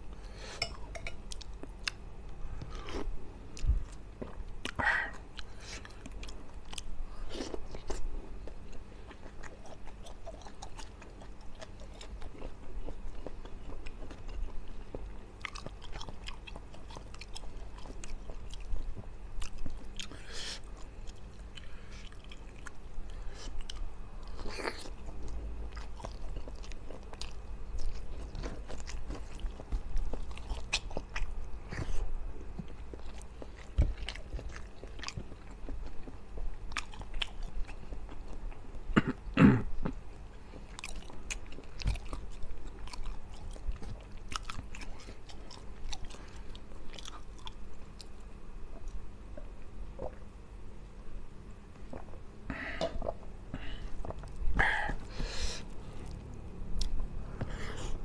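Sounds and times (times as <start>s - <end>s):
person chewing and smacking lips: 0.6s - 2.0s, 2.6s - 39.2s, 39.8s - 50.3s, 52.8s - 58.0s.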